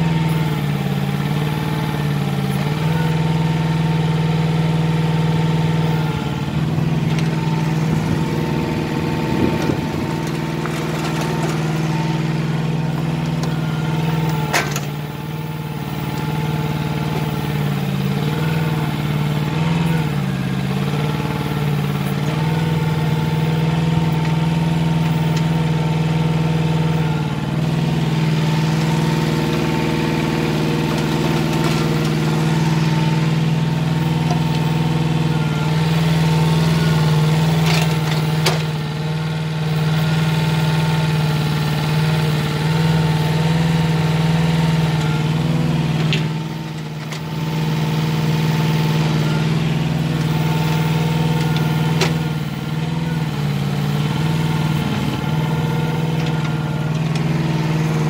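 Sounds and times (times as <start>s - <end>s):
mini excavator engine running: 0.0s - 58.0s.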